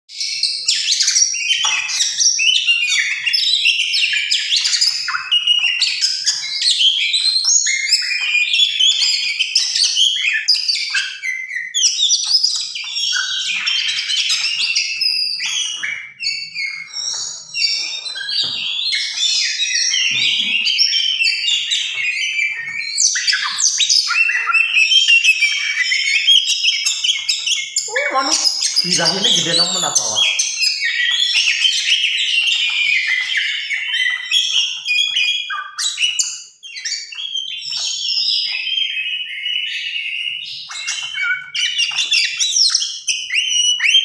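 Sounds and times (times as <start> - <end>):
bird singing whistled song: 0.1 - 44.0.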